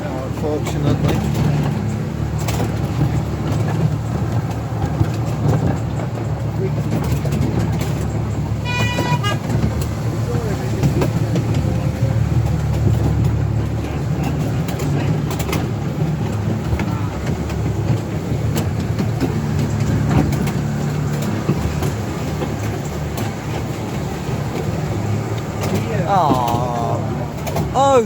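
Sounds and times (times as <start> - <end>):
miniature train rumbling: 0.0 - 28.0
wheels clicking on track: 0.0 - 28.0.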